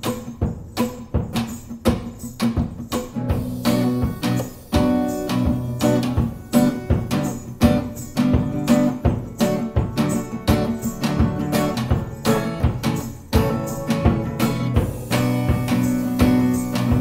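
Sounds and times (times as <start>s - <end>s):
acoustic guitar strumming: 0.0s - 17.0s
mallet striking drum: 0.0s - 17.0s.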